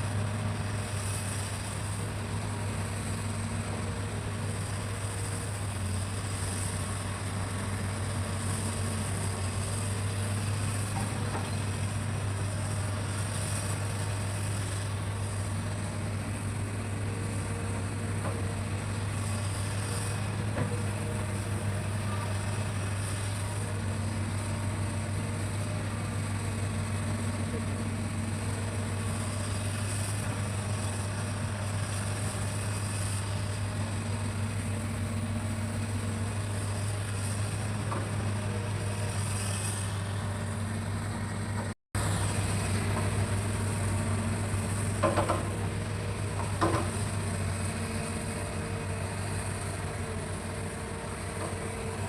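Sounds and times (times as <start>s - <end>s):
excavator diesel engine droning: 0.0s - 52.0s.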